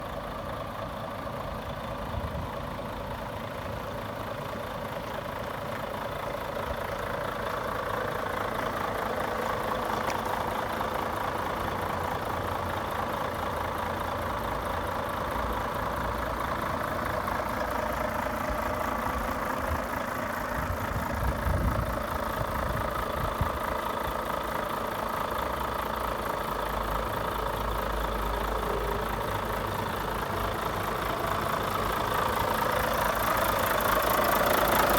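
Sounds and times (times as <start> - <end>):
diesel truck idling: 0.0 - 34.9.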